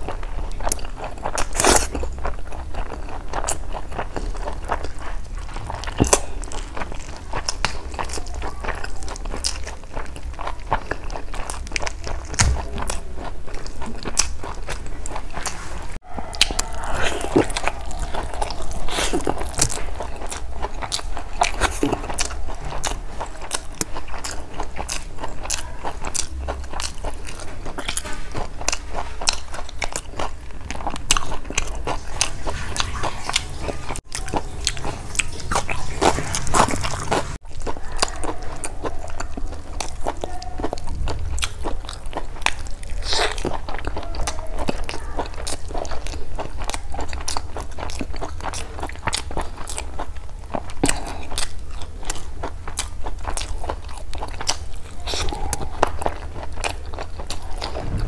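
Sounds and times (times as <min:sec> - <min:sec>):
person biting and chewing: 0:00.0 - 0:08.2, 0:09.2 - 0:58.0.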